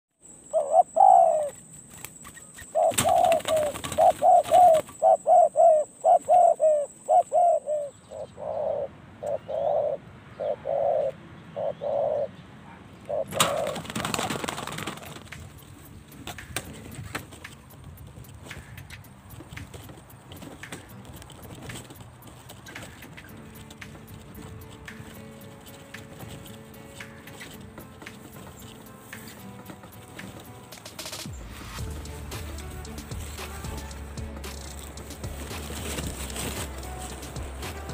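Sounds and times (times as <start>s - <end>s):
dove cooing: 0.4s - 31.2s, 32.0s - 37.9s.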